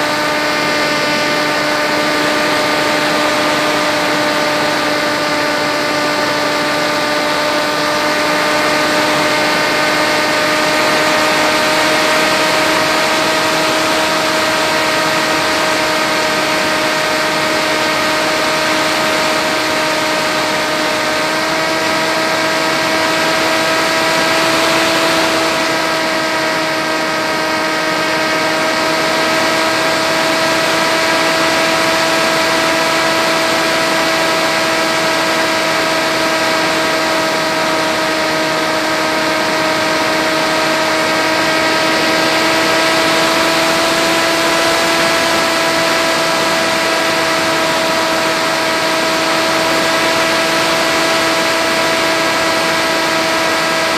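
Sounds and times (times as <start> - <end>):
electric motor buzzing hum: 0.0 - 53.9.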